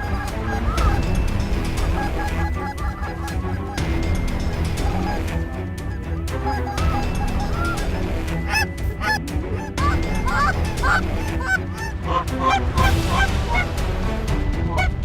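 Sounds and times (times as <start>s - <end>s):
geese honking: 0.0s - 13.8s.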